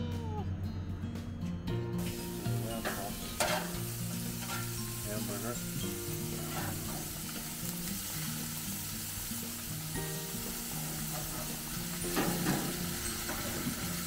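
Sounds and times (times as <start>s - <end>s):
background music: 0.0s - 14.0s
spatula scraping grill grates: 2.0s - 9.7s, 10.3s - 14.0s
meat sizzling on a grill: 2.0s - 14.0s.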